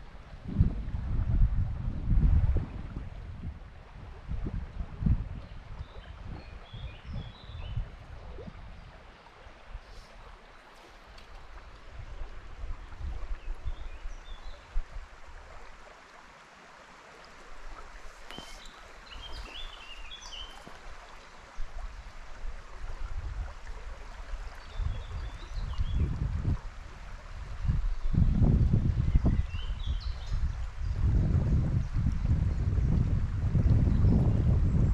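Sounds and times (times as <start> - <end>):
wind buffeting microphone: 0.0 - 9.1, 11.2 - 15.5, 18.0 - 34.9
river water running: 0.0 - 34.9.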